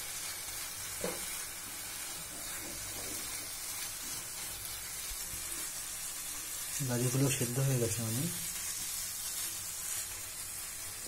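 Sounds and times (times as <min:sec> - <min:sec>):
carrot sizzling in a frying pan: 0:00.0 - 0:11.0.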